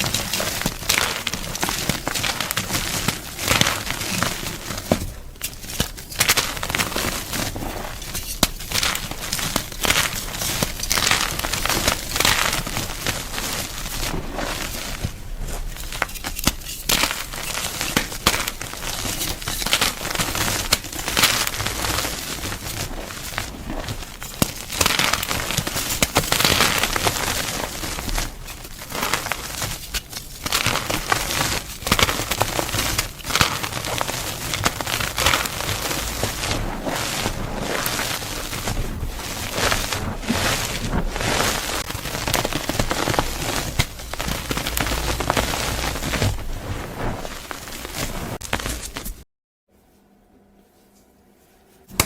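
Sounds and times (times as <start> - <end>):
chalk crunching: 0.0 - 49.2.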